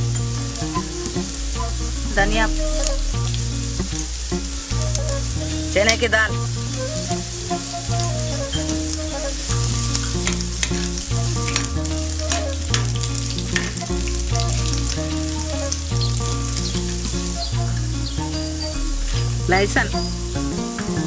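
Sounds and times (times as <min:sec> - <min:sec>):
background music with bass: 0:00.0 - 0:21.0
food sizzling in hot oil: 0:00.0 - 0:21.0.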